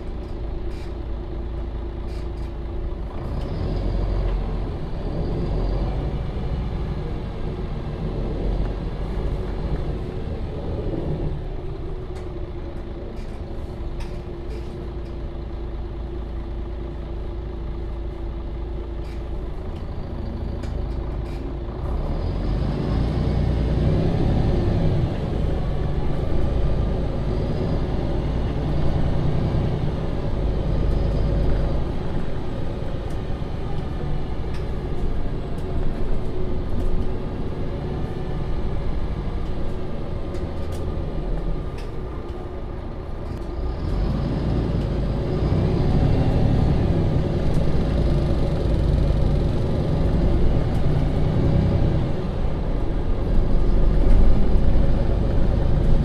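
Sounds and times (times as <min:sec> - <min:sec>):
bus engine droning and whining: 0:00.0 - 0:56.0.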